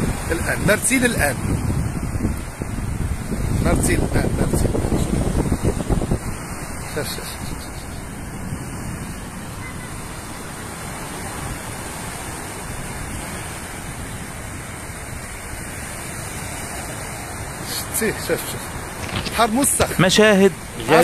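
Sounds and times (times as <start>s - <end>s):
small waves washing up a beach: 0.0s - 21.0s
wind on microphone: 0.0s - 21.0s.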